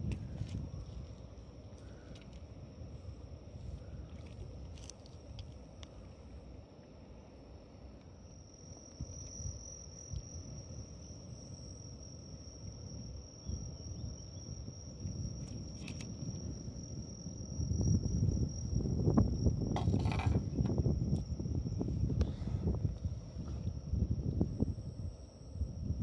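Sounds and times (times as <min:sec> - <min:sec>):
wind rumble: 0:00.0 - 0:06.7, 0:08.9 - 0:26.0
insects trilling: 0:00.0 - 0:26.0.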